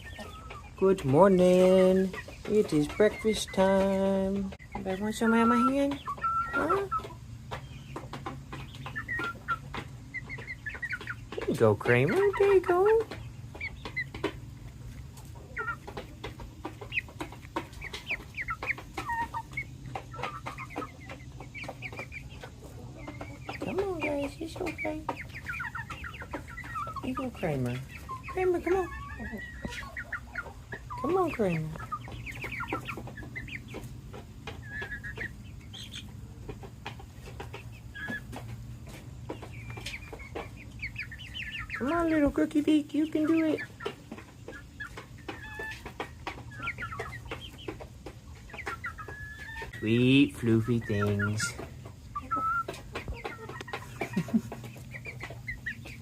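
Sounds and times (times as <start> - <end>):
chickens clucking and peeping: 0.0 - 56.0.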